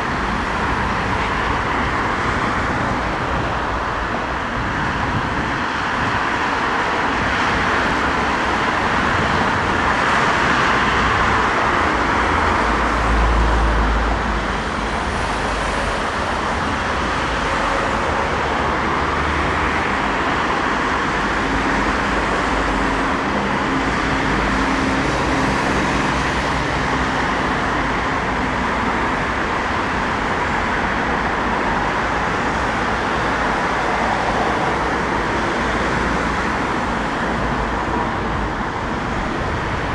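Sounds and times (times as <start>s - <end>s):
passing vehicles rumble and hiss: 0.0s - 39.9s.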